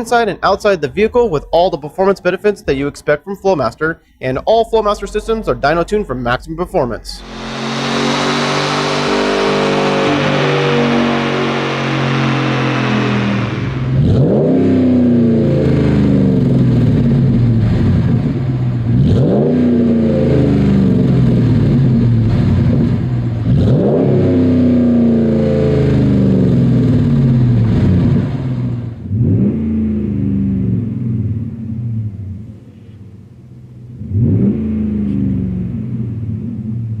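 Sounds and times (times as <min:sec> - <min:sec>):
truck engine revving: 0:05.0 - 0:36.9.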